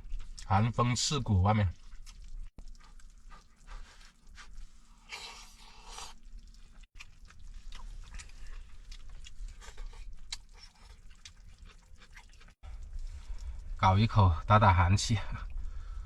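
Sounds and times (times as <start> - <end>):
chewing and crunching food: 0.0 - 14.5.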